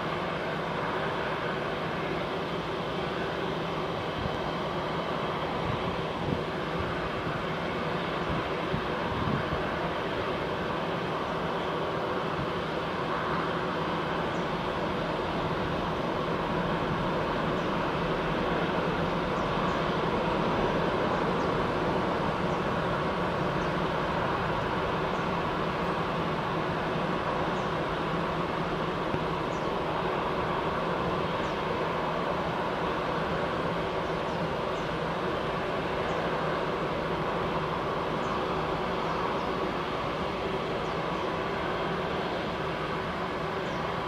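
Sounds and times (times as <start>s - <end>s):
jet engines at takeoff thrust: 0.0s - 44.0s.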